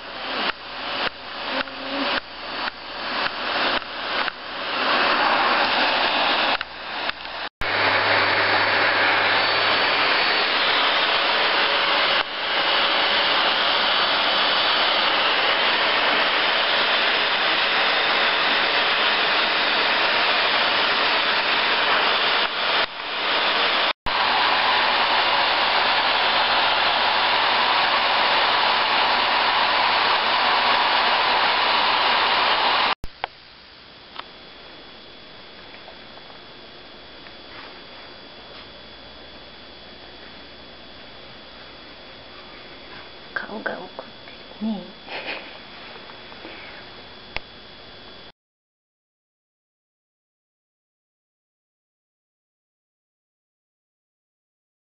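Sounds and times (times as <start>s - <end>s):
vacuum cleaner running: 0.0s - 33.0s, 33.9s - 48.3s.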